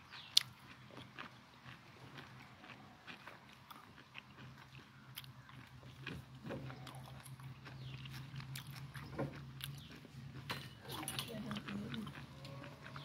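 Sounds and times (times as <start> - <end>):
steady low motor hum: 0.0 - 13.0.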